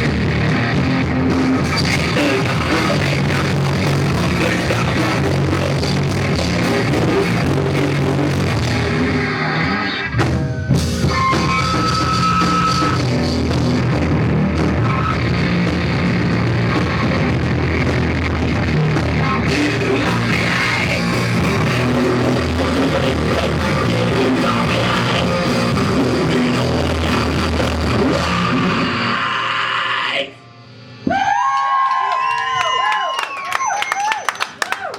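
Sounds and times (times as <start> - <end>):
rock band playing live: 0.0 - 29.2.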